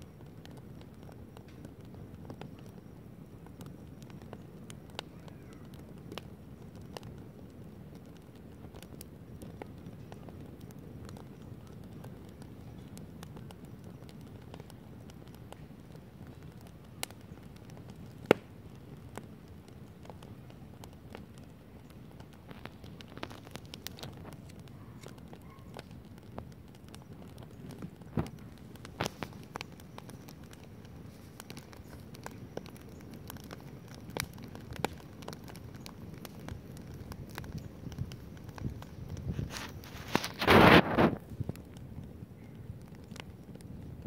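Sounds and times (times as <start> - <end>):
campfire flames rushing: 0.0 - 44.0
firewood crackling and popping: 0.0 - 44.0.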